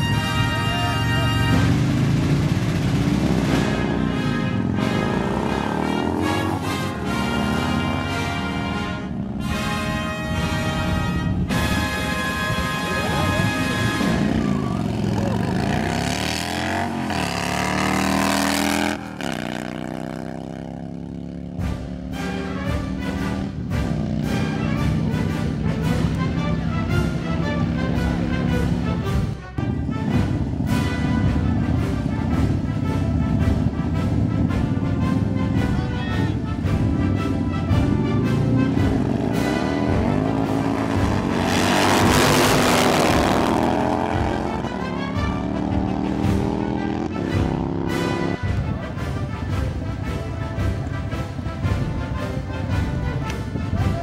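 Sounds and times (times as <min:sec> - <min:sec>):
motorcycle engine accelerating: 0:00.0 - 0:53.6.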